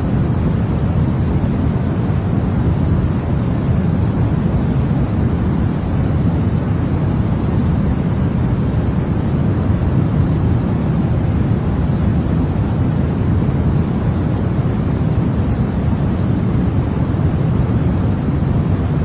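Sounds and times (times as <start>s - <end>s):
deep rushing white noise: 0.0s - 19.0s.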